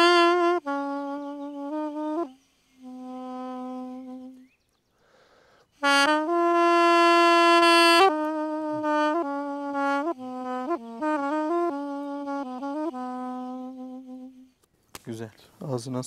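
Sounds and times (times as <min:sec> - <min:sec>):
double-reed pipe melody: 0:00.0 - 0:04.5, 0:05.7 - 0:14.6.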